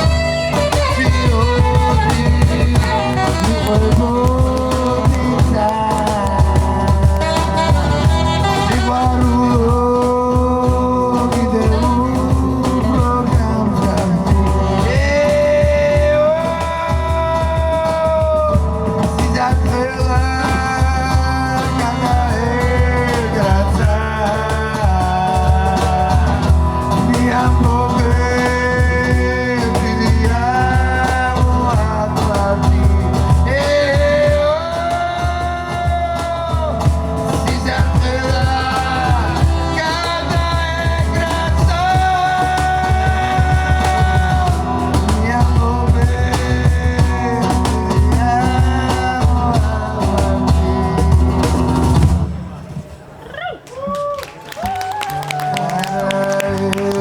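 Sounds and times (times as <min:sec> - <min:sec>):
person singing: 0:00.0 - 0:51.8, 0:54.6 - 0:57.0
drum beat: 0:00.0 - 0:52.6
bass: 0:00.0 - 0:57.0
live band playing: 0:00.0 - 0:57.0.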